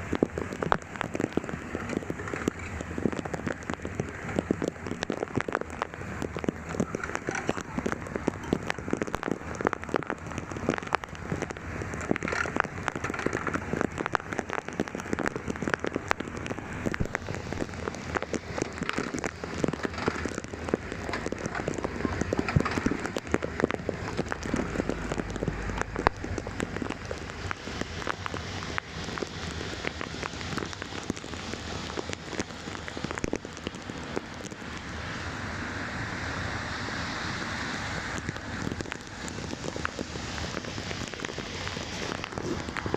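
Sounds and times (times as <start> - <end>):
heavy rain pattering: 0.0 - 42.9.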